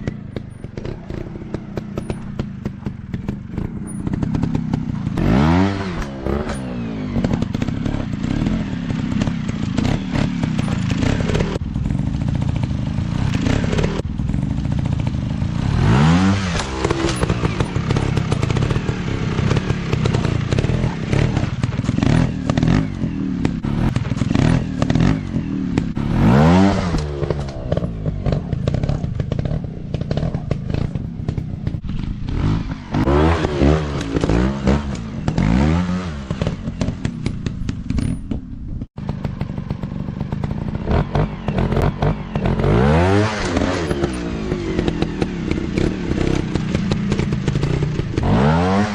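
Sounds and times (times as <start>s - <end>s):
clatter: 0.0s - 48.9s
dirt bike engines revving: 0.0s - 48.9s.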